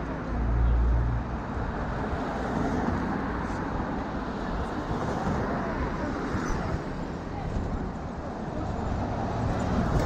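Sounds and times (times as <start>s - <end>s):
road noise of traffic: 0.0s - 10.0s.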